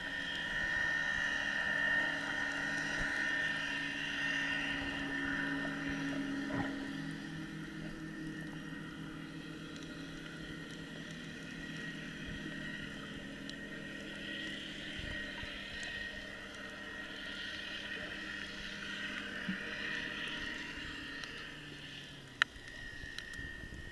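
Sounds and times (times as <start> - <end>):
motorboat engine underwater: 0.0 - 23.9.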